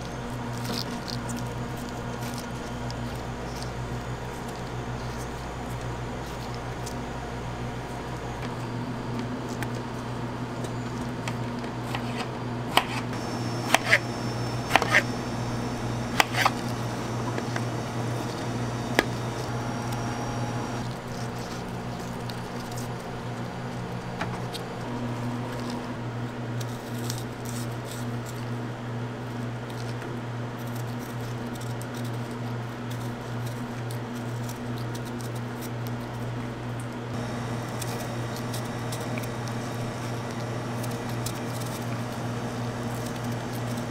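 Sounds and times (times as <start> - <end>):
kitchen equipment hum: 0.0 - 31.5, 32.3 - 43.9.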